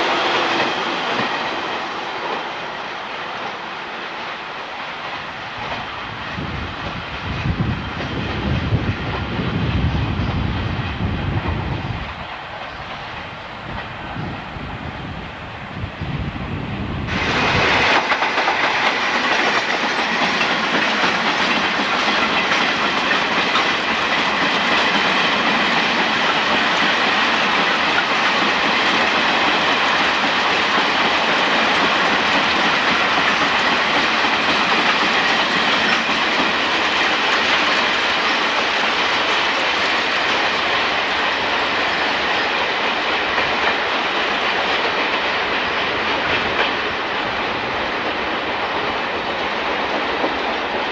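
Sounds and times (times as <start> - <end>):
train wheels rushing on rails: 0.0 - 50.9.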